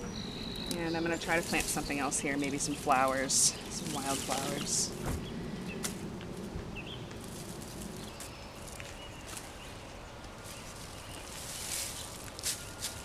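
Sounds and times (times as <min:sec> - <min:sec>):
straw and stalks rustling: 0:00.0 - 0:13.0
light crackles: 0:00.6 - 0:13.0.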